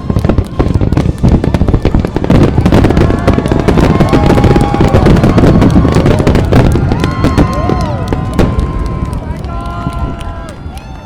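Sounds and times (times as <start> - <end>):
fireworks banging and crackling: 0.0 - 11.0.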